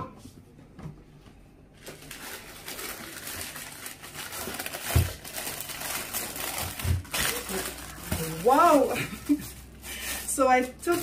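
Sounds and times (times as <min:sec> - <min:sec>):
paper and plastic rustling: 0:01.7 - 0:11.0.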